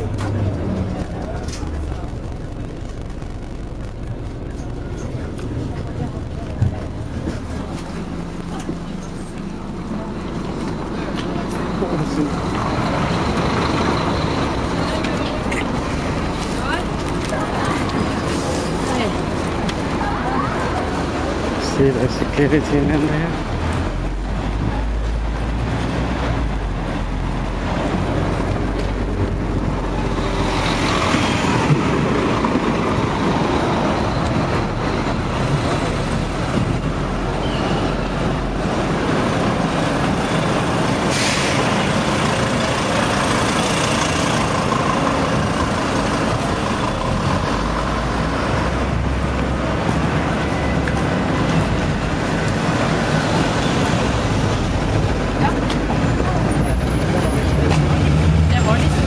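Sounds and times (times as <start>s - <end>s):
city traffic passing: 0.0s - 59.0s.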